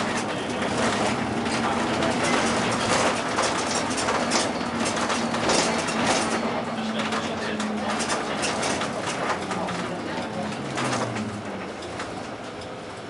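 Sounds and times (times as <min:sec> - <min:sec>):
interior rattles: 0:00.0 - 0:12.7
bus engine running: 0:00.0 - 0:13.0
road noise: 0:00.0 - 0:13.0.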